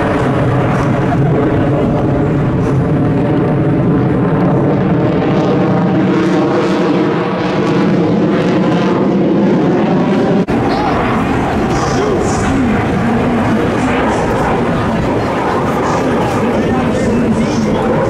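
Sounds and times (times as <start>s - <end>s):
fighter jet roaring overhead: 0.0s - 18.0s.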